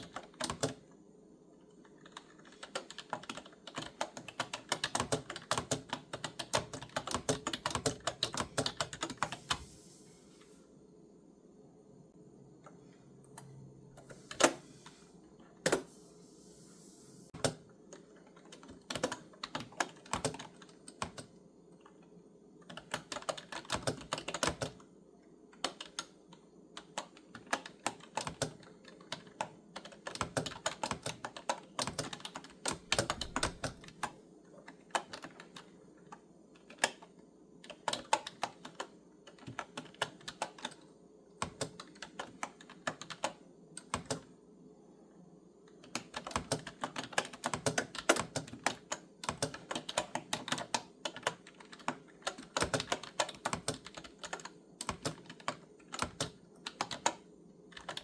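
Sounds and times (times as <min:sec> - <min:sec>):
clicky keyboard typing: 0:00.0 - 0:00.8, 0:01.7 - 0:09.7, 0:17.3 - 0:22.0, 0:22.6 - 0:24.9, 0:25.6 - 0:44.4, 0:45.7 - 0:58.0.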